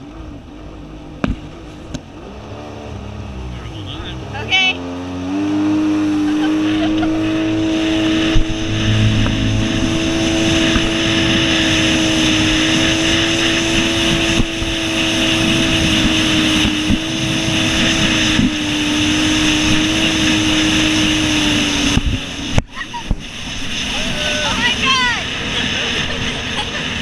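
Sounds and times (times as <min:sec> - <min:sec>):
jet ski engine running: 0:00.0 - 0:27.0
wind and water rushing: 0:00.0 - 0:27.0.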